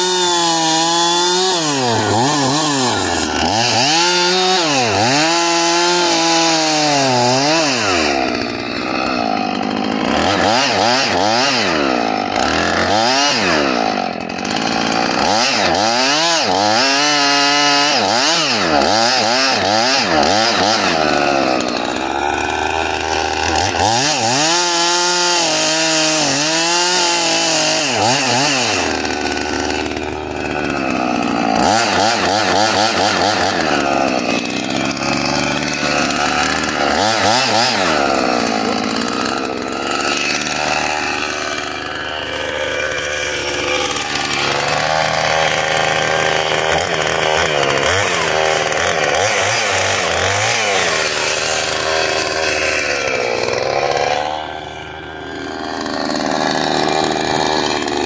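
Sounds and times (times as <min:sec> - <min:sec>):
chainsaw cutting into log: 0:00.0 - 0:58.0.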